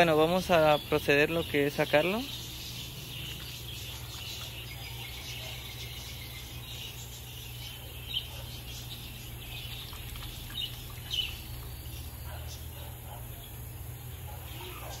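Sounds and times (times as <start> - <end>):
bird chirps: 0.0 - 15.0
insects chirring: 0.0 - 15.0
low steady hum: 0.0 - 15.0.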